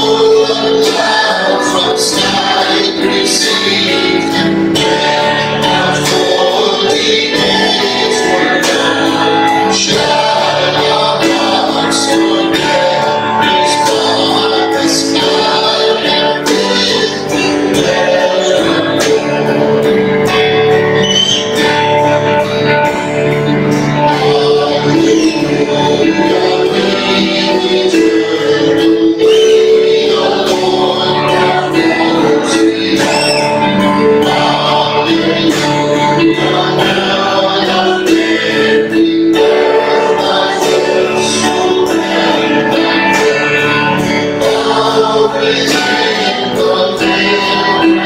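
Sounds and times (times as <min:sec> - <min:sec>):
congregation singing a hymn: 0:00.0 - 0:48.0
guitar accompaniment: 0:00.0 - 0:48.0.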